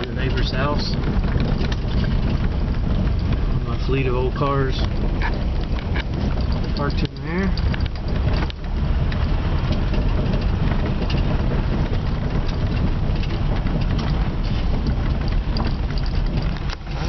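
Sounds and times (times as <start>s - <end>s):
car engine with rod knock: 0.0s - 17.0s.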